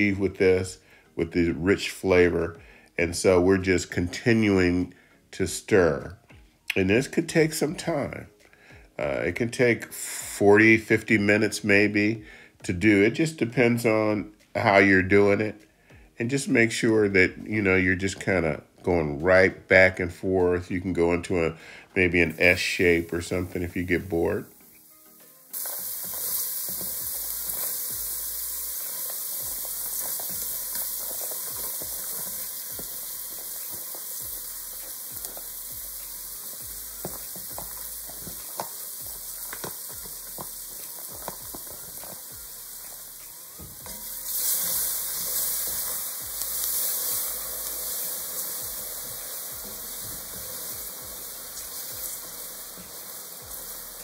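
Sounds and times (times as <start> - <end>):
vegetables sizzling in a pot: 0.0 - 5.7, 6.7 - 18.5, 20.6 - 54.0.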